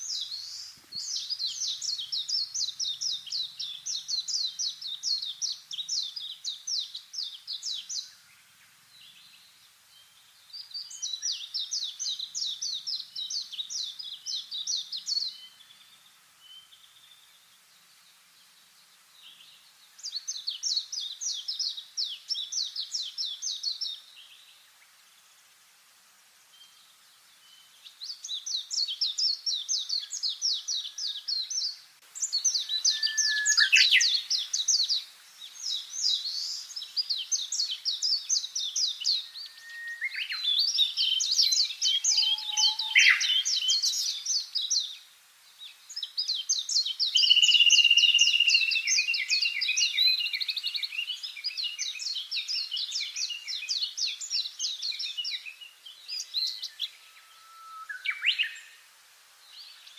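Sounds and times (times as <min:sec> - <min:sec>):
songbird chirping: 0:00.0 - 0:59.9.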